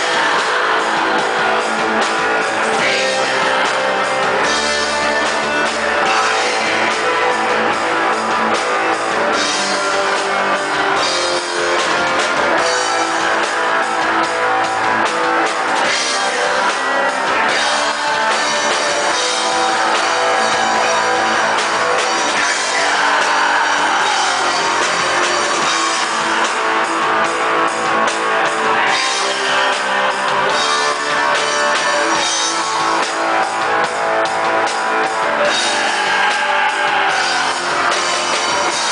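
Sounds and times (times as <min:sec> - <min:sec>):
metal band playing live: 0:00.0 - 0:38.9.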